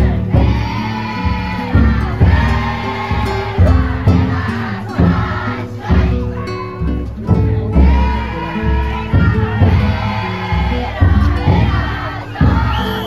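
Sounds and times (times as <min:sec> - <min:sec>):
big drum beating: 0:00.0 - 0:13.0
voices chanting: 0:00.0 - 0:13.0.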